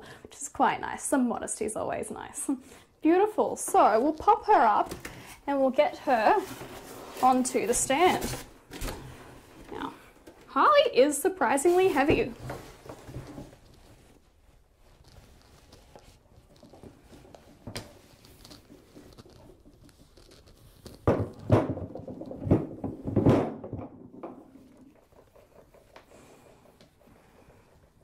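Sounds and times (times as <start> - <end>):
rustling: 3.3 - 23.1, 24.4 - 28.0.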